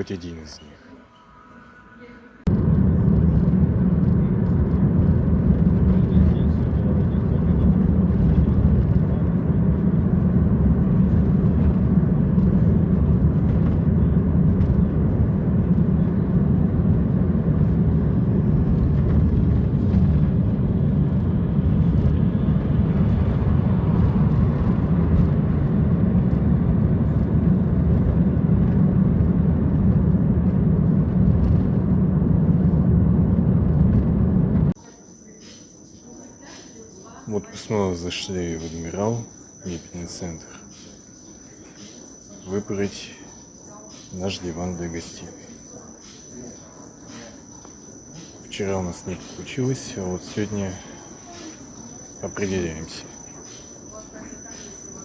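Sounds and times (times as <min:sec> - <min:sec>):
car driving road noise: 0:00.0 - 0:34.8, 0:36.9 - 0:55.0.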